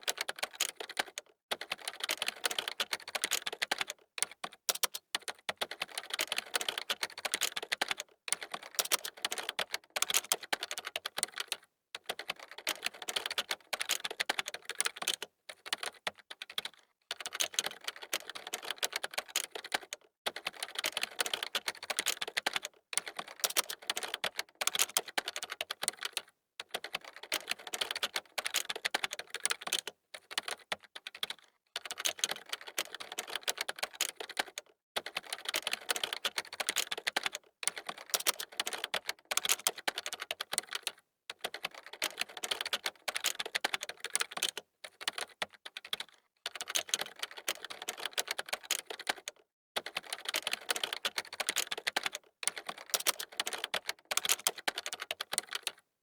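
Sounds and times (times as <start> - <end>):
keyboard typing: 0.0 - 55.8.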